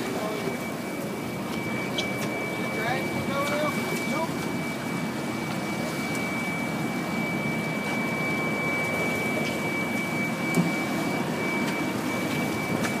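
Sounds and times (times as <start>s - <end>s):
boat engines droning: 0.0s - 13.0s
thin high whine: 0.0s - 13.0s.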